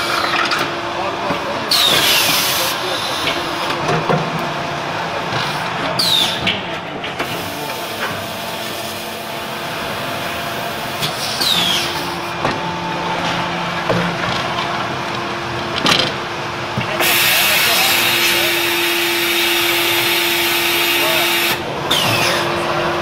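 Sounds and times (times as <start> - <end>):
press machinery humming: 0.0 - 23.0.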